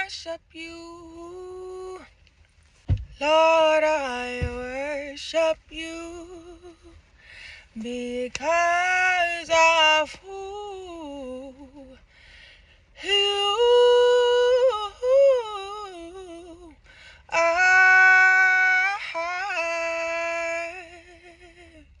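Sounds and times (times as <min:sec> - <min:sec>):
woman singing unaccompanied: 0:00.0 - 0:02.2, 0:03.2 - 0:12.1, 0:13.0 - 0:22.0.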